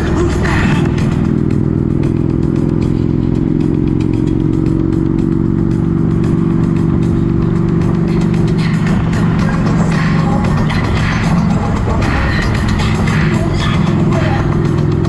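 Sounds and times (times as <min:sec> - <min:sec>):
motorcycle engine cruising: 0:00.0 - 0:15.0
music playing: 0:00.0 - 0:15.0.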